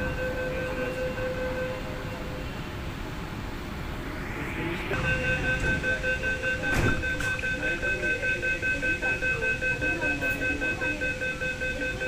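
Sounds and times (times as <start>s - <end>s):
pulsing electronic warning beeps: 0.0s - 2.8s, 3.6s - 12.0s.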